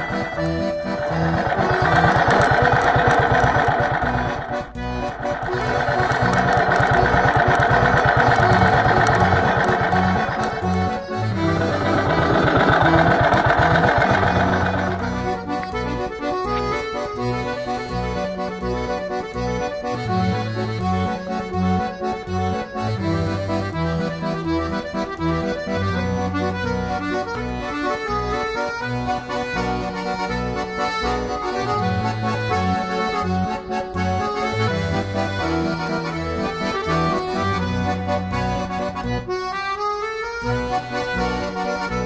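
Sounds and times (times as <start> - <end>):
traditional-style instrumental music: 0.0 - 42.0.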